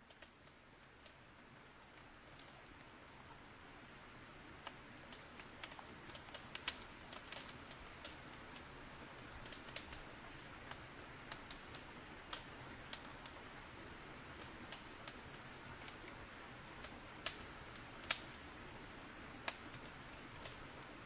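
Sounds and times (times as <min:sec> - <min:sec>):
faint steady hiss: 0:00.0 - 0:21.0
fire crackling and popping: 0:00.0 - 0:21.0.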